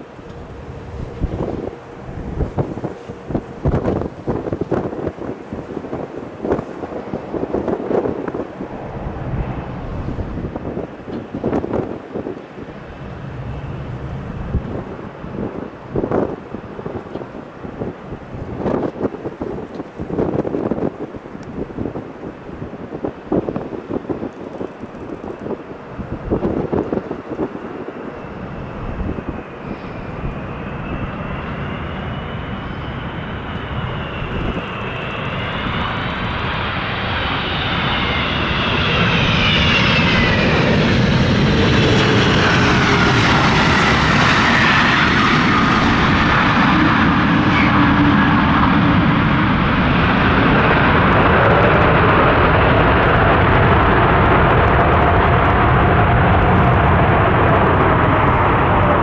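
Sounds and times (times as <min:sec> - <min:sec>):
jet engines whining: 0:00.0 - 0:59.0
wind buffeting microphone: 0:00.0 - 0:59.0.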